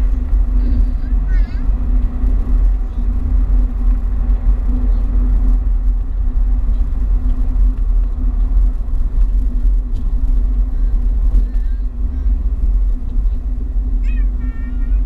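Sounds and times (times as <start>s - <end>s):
car road rumble: 0.0s - 15.0s
low constant drone: 0.0s - 15.0s.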